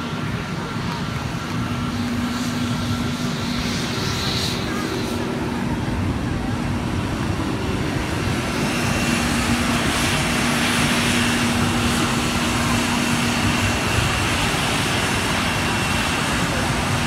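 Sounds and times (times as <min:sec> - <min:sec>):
jet engines whining and rushing: 0:00.0 - 0:17.0.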